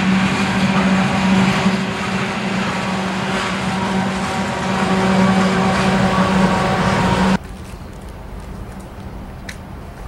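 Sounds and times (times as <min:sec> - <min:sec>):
diesel locomotive engine hum: 0:00.0 - 0:10.0
train wheels rumbling on rails: 0:00.0 - 0:10.0.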